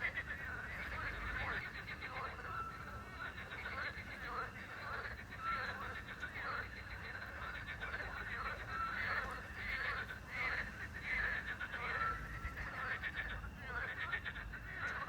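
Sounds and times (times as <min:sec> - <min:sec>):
crickets chirping: 0:00.0 - 0:15.0
frogs croaking: 0:00.0 - 0:15.0.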